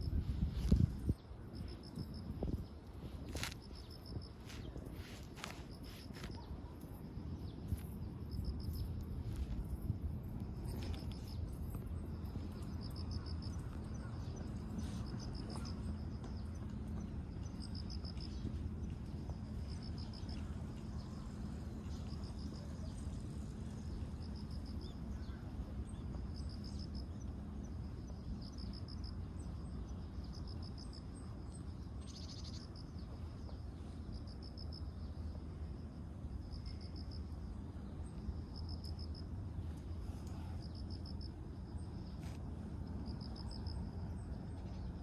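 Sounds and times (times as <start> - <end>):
insects chirping: 0.0 - 45.0
low background rumble: 0.0 - 45.0.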